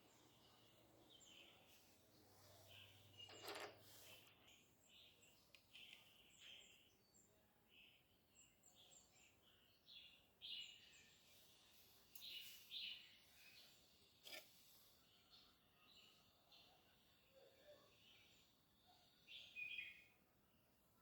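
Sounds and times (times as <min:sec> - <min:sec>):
faint bird chirps: 0:00.0 - 0:20.3.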